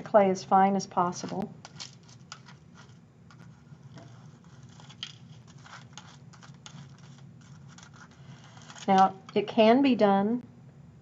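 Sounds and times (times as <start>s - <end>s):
dry clay crumbs crackling: 0.1s - 9.9s.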